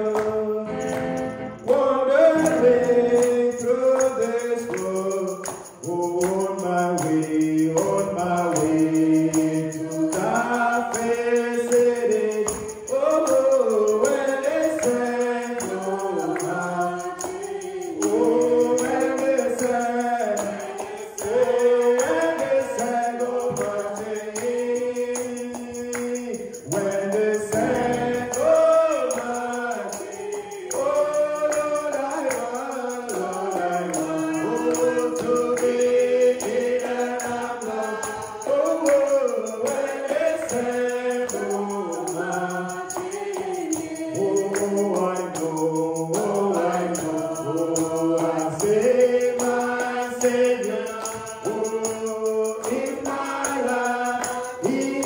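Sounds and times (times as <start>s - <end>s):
congregation singing gospel song: 0.0s - 55.0s
tambourine: 0.0s - 55.0s.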